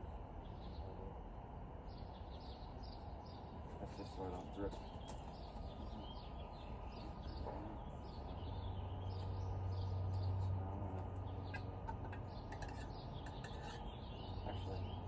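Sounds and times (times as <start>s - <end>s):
small birds chirping: 0.4s - 1.2s, 1.8s - 15.0s.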